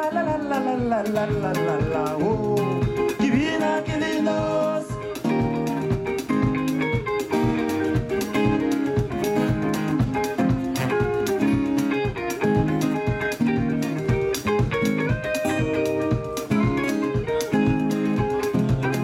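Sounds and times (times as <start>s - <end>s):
guitar playing: 0.0s - 19.0s
steady drumbeat: 0.0s - 19.0s.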